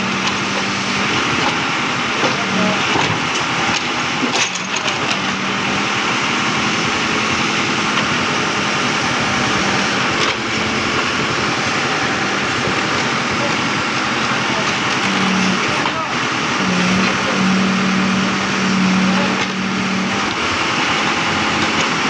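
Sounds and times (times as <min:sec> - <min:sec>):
backhoe engine running: 0:00.0 - 0:22.0.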